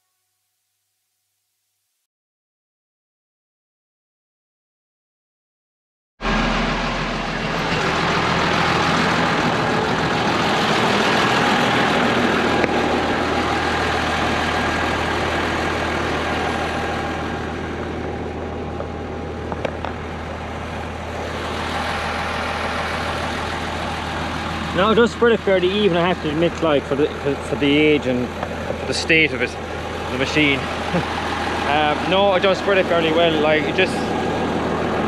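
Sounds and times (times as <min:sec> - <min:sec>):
tractor diesel engine running: 0:06.2 - 0:35.0.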